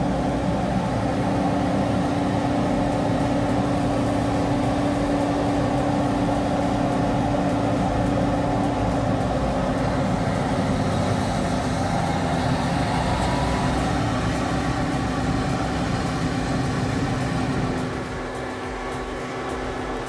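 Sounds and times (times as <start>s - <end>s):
heavy vehicle engine droning: 0.0s - 20.0s.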